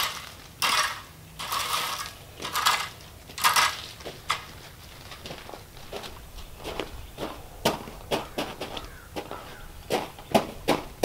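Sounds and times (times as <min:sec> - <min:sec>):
rake scraping through gravel: 0:00.0 - 0:11.0.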